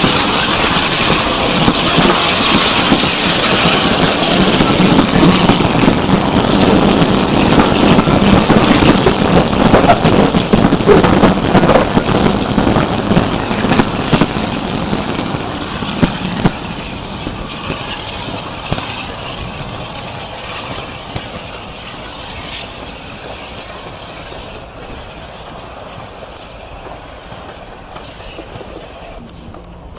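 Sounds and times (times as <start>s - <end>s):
steam train rolling past: 0.0s - 29.9s.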